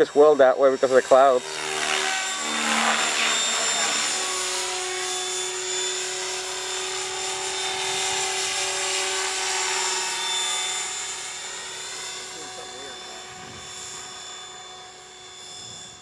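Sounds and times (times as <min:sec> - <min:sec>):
model helicopter whine: 0:00.0 - 0:16.0.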